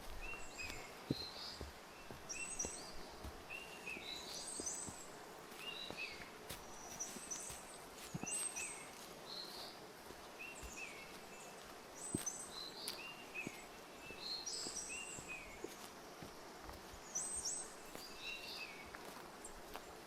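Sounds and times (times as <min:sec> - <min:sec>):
background hiss: 0:00.0 - 0:20.0
birds chirping: 0:00.0 - 0:20.0
footsteps on forest path: 0:00.0 - 0:20.0.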